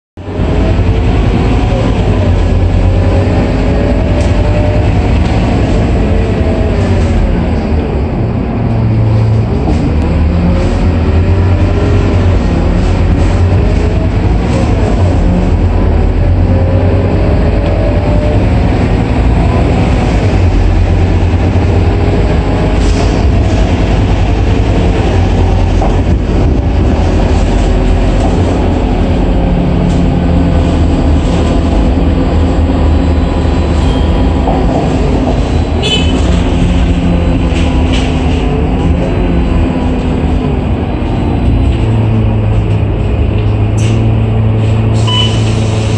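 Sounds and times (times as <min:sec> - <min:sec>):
bus engine drone: 0:00.2 - 0:45.9.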